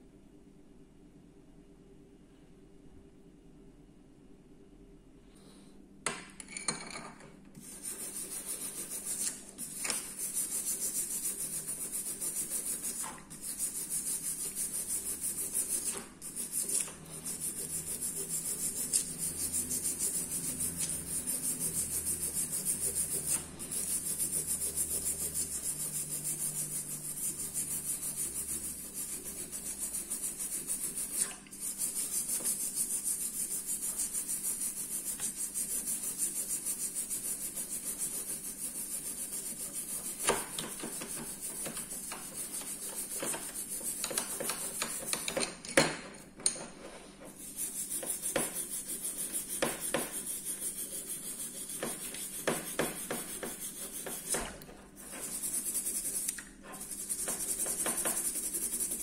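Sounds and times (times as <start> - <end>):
rubbing strokes on a surface: 7.6 - 45.5, 46.4 - 59.0.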